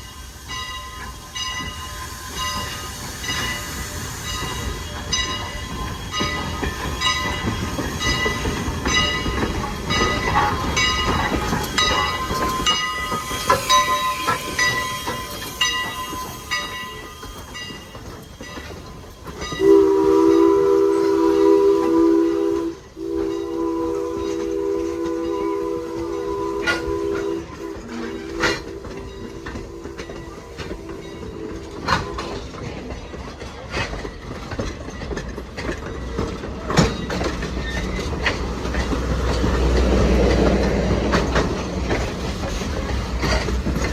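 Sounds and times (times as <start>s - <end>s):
train bell ringing: 0.0s - 43.9s
train passing: 0.0s - 43.9s.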